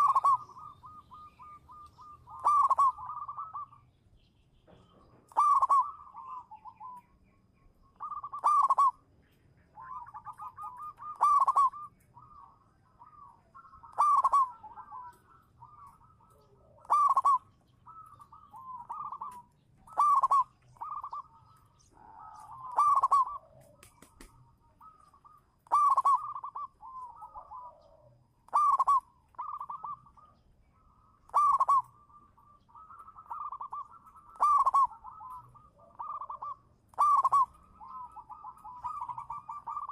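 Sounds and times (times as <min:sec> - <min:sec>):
dove cooing: 0:00.0 - 0:03.9, 0:04.7 - 0:07.2, 0:07.8 - 0:39.9.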